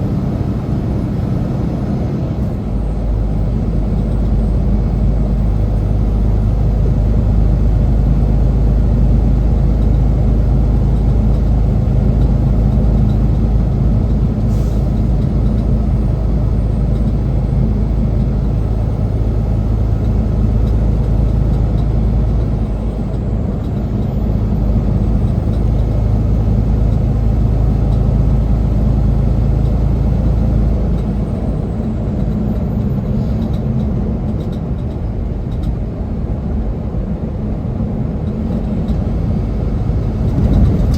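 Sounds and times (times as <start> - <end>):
diesel engine drone: 0.0 - 40.9
road noise: 0.0 - 40.9.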